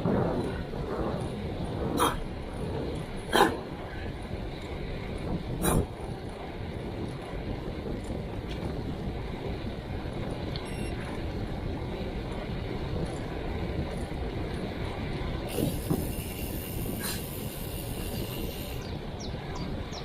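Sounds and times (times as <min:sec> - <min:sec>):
moving vehicle rumbling: 0:00.0 - 0:20.0.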